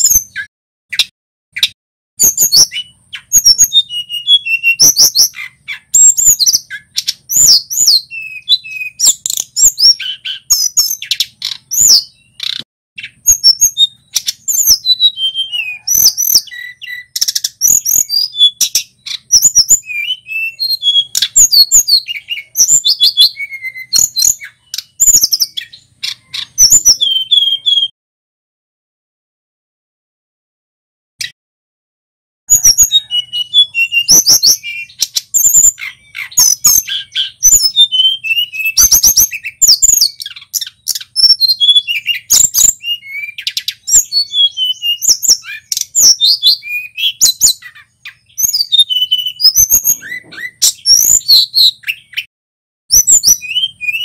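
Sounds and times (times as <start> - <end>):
bird singing chirps and whistles: 0.0 - 27.9, 32.5 - 52.3, 52.9 - 54.0.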